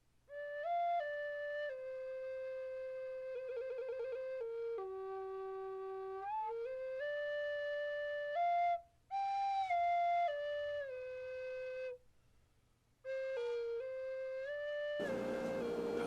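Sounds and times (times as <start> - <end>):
flute playing slow melody: 0.3 - 12.0, 13.1 - 16.0.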